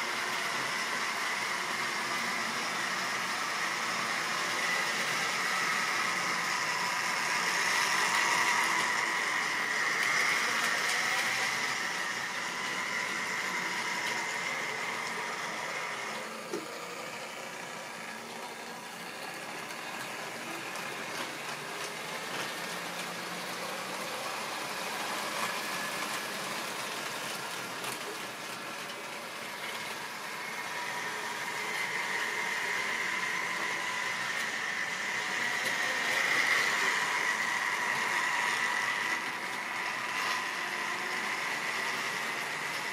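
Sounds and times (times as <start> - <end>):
model train motor whine: 0.0 - 42.9.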